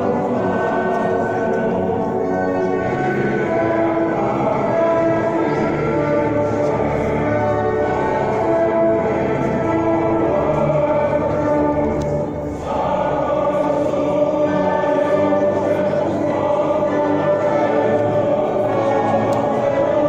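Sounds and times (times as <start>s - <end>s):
choir singing sacred music: 0.0s - 20.0s
musical accompaniment: 0.0s - 20.0s.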